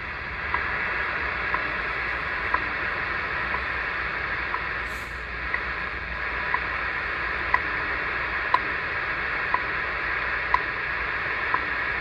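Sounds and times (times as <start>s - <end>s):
shortwave radio hiss: 0.0s - 12.0s
time signal ticks: 0.5s - 4.8s, 5.5s - 9.8s, 10.4s - 12.0s.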